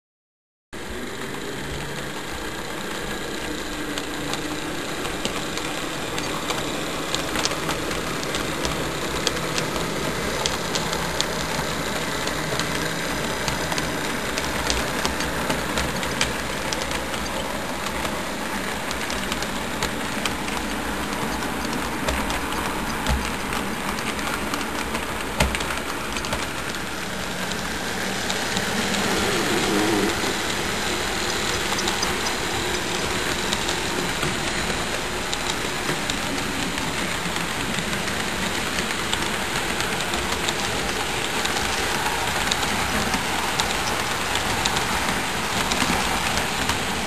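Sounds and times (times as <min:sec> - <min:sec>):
model train rumble and hum: 0:00.8 - 0:47.0
wheels clicking over rail joints: 0:00.8 - 0:47.0.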